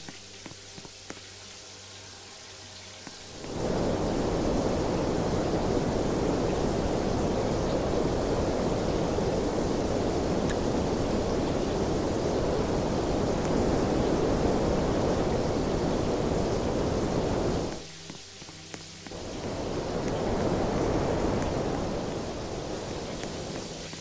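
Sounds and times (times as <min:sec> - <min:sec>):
fan rushing air: 0:03.3 - 0:24.0.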